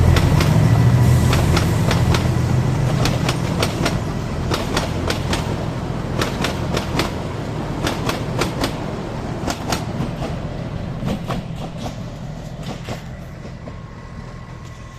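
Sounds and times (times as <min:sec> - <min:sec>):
wheels clicking over rail joints: 0:00.0 - 0:00.6, 0:01.3 - 0:07.2, 0:07.8 - 0:14.9
train rumbling on track: 0:00.0 - 0:14.9.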